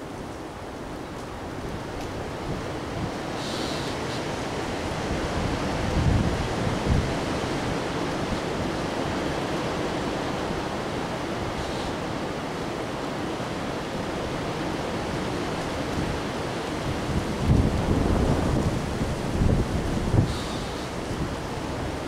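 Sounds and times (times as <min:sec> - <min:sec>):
wind gusts buffeting microphone: 0:00.0 - 0:22.0
wind rushing through treetops: 0:00.0 - 0:22.0.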